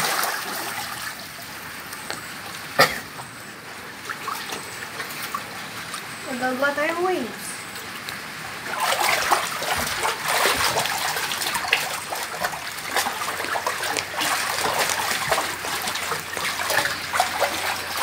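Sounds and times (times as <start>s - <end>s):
pool water splashing: 0.0s - 18.0s.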